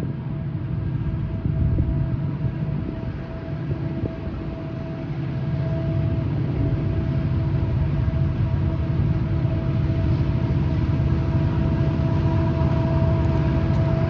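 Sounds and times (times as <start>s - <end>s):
diesel locomotive rumble: 0.0s - 14.0s
locomotive whine: 0.0s - 14.0s.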